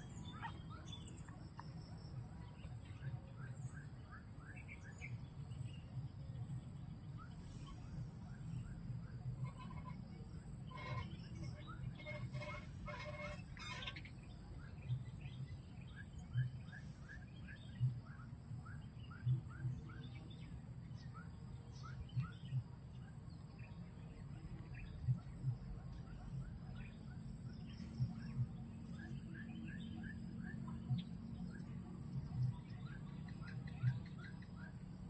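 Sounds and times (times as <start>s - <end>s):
background noise: 0.0s - 35.0s.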